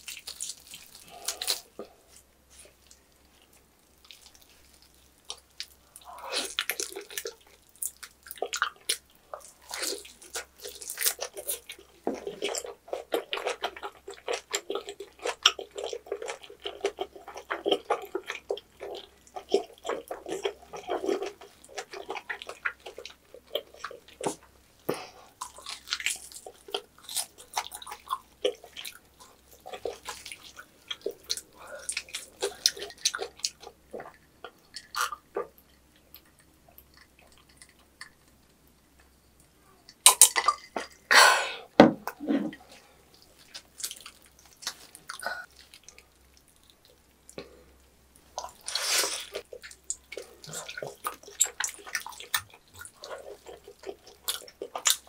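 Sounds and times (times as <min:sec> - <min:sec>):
chewing with mouth clicks: 0:00.0 - 0:41.1, 0:42.6 - 0:47.6, 0:48.3 - 0:55.0.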